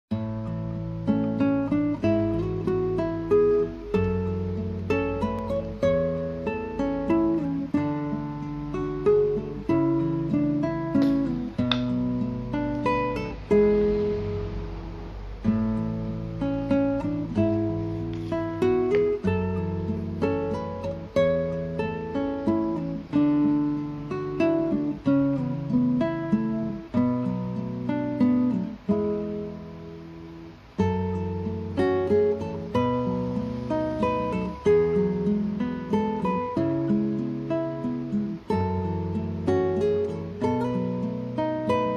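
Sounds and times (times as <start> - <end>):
acoustic guitar plucked notes: 0.1 - 41.9.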